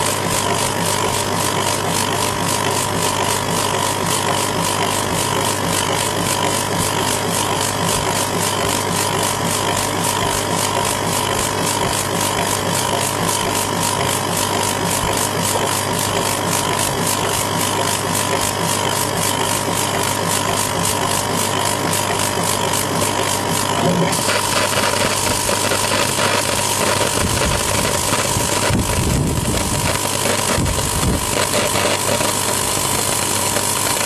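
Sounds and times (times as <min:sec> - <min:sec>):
laser engraver humming: 0:00.0 - 0:34.0.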